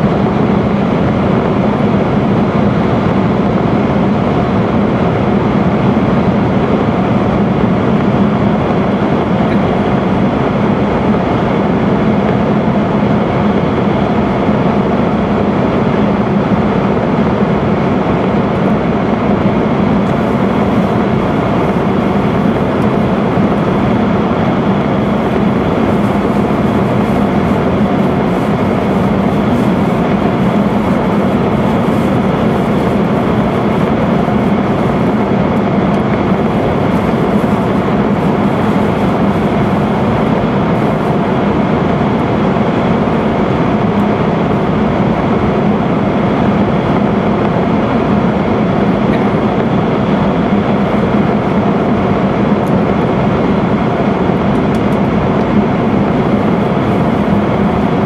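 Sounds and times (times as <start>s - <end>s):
train running in tunnel: 0.0s - 58.0s.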